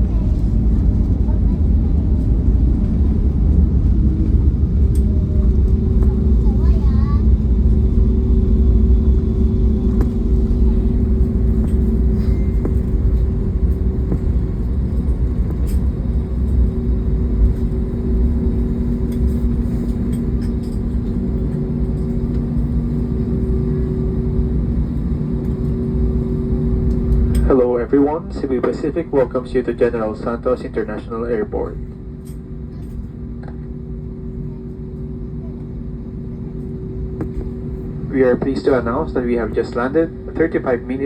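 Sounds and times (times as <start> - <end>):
airliner engine and runway rumble: 0.0 - 41.0
steady engine tones: 0.0 - 41.0.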